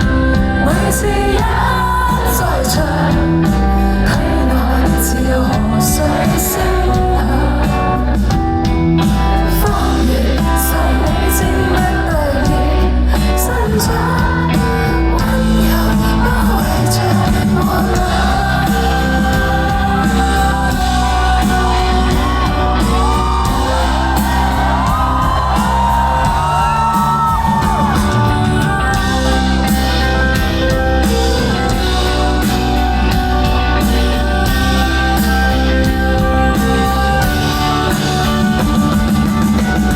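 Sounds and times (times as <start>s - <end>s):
live band playing pop song: 0.0s - 39.9s
person singing: 0.0s - 39.9s.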